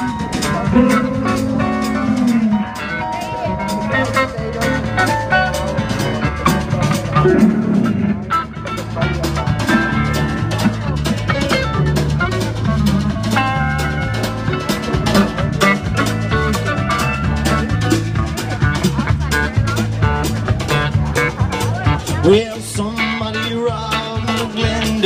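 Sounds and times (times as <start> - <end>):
bass line: 0.0 - 25.0
drum kit steady beat: 0.0 - 25.0
guitars sustained notes: 0.0 - 25.0.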